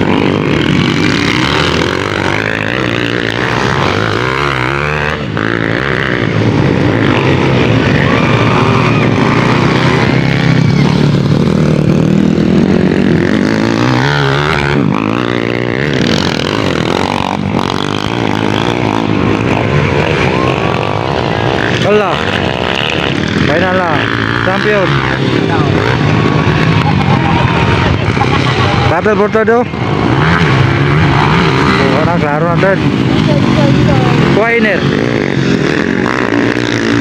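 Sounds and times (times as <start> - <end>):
motocross motorcycle engines revving: 0.0 - 37.0.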